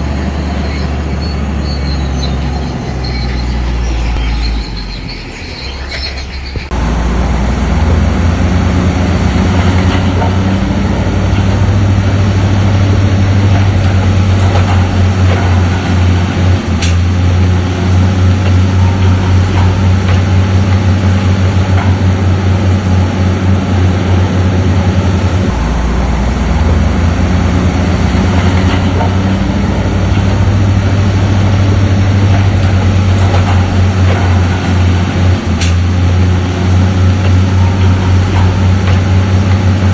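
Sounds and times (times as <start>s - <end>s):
track clatter: 0.0s - 6.9s, 7.6s - 39.9s
bulldozer diesel engine drone: 0.0s - 39.9s.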